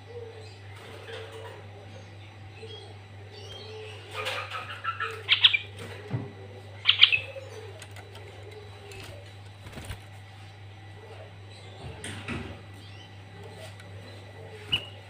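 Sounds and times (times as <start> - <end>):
bird singing: 0.0 - 15.0
steady low hum: 0.0 - 15.0.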